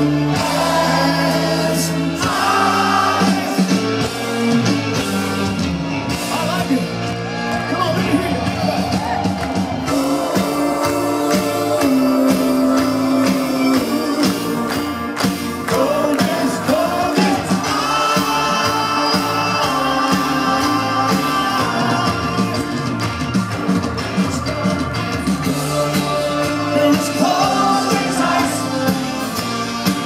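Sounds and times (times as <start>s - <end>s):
lead singer: 0.0s - 5.8s, 8.1s - 30.0s
live rock band playing: 0.0s - 30.0s.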